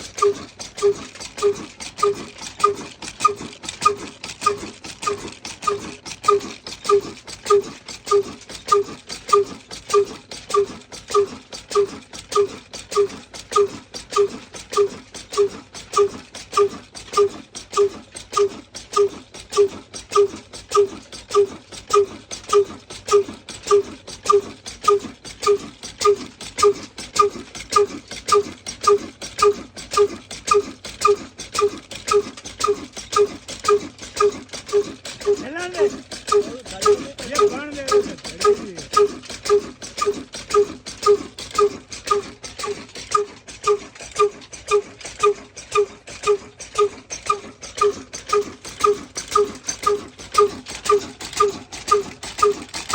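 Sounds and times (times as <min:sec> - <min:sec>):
diesel engine running slowly: 0:00.0 - 0:52.9.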